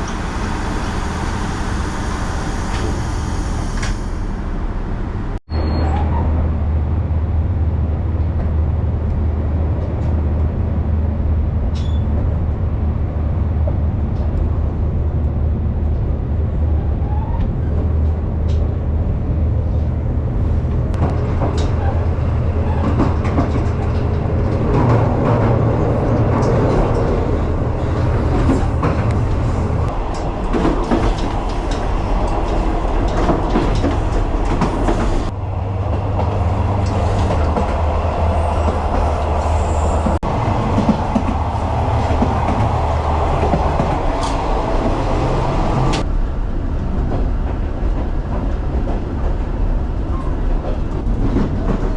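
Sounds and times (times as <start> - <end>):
railcar engine drone: 0.0 - 51.9.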